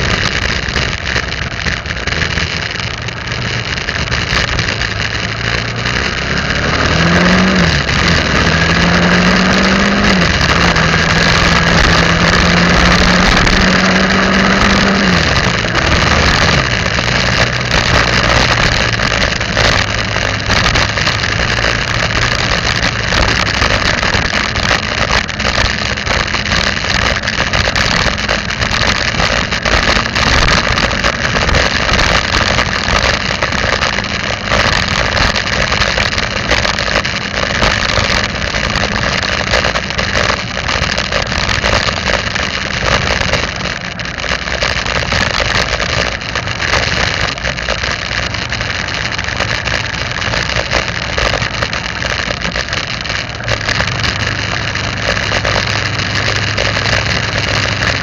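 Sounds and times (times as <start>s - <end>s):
road noise: 0.0s - 58.0s
vehicle engine running: 0.0s - 58.0s
wind noise: 0.0s - 58.0s.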